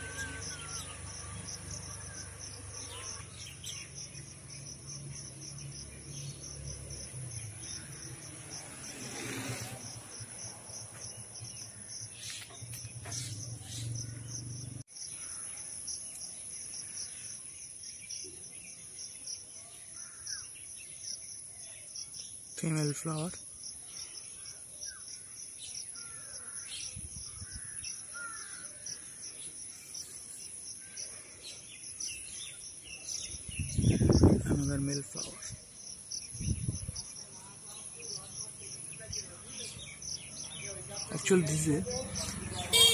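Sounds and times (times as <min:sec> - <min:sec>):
insects chirping trill: 0:00.0 - 0:42.9.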